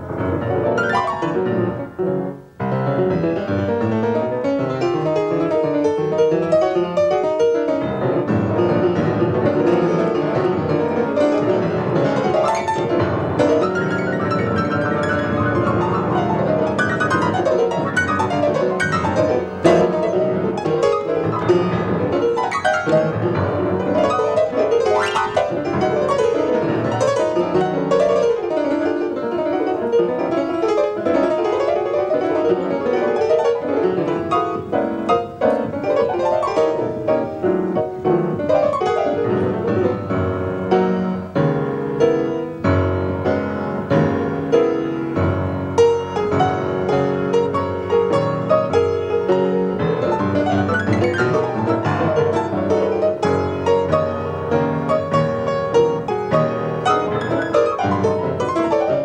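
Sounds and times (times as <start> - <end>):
free-jazz piano improvisation: 0.0 - 59.0.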